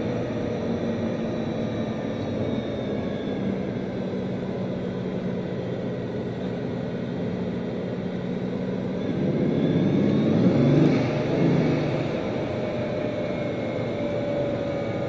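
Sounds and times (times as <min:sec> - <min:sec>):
car engine drone in cabin: 0:00.0 - 0:15.0.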